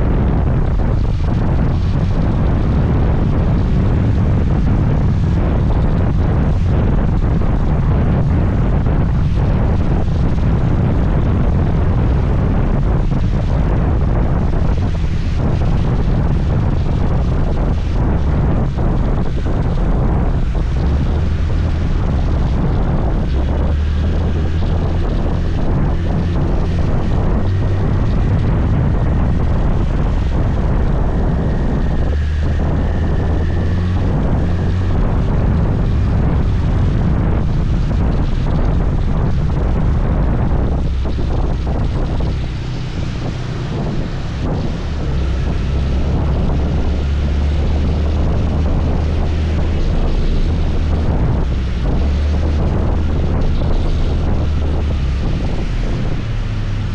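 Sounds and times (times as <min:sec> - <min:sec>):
scooter engine and road noise: 0:00.0 - 0:56.9
wind buffeting microphone: 0:00.0 - 0:56.9.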